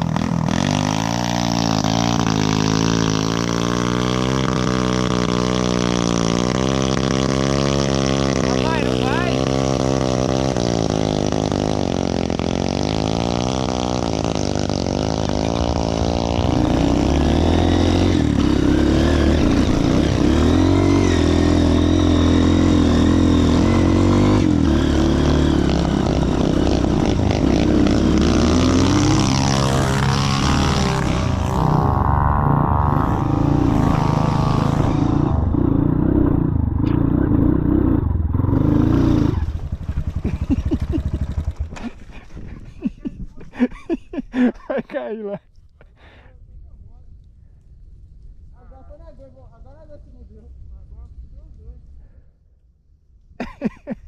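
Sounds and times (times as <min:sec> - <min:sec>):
motorcycle engine revving: 0:00.0 - 0:44.8.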